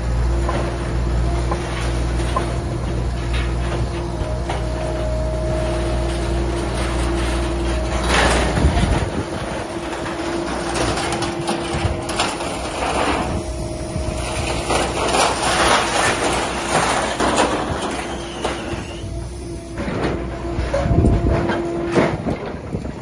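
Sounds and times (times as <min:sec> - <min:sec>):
engine and hydraulic hum: 0:00.0 - 0:23.0
steel scrap clanking: 0:01.5 - 0:23.0.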